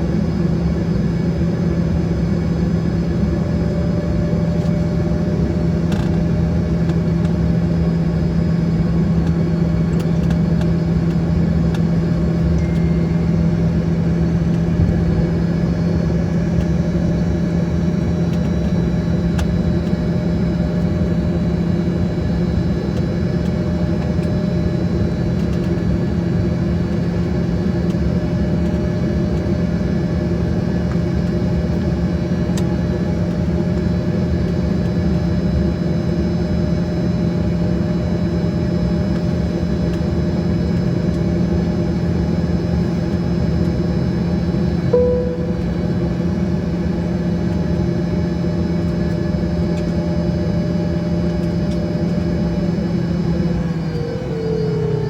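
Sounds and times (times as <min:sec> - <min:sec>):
jet cabin engine drone: 0:00.0 - 0:55.0.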